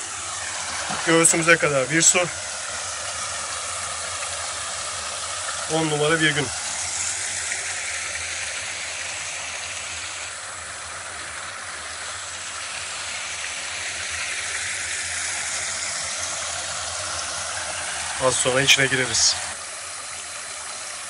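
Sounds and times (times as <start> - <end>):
creek water running into pool: 0.0 - 21.0.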